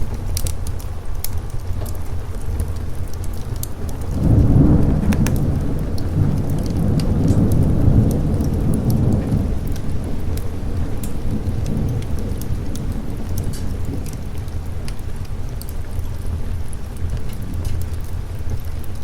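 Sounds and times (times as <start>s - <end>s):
steady rain: 0.0s - 19.0s
thunder rumbling: 0.0s - 19.0s.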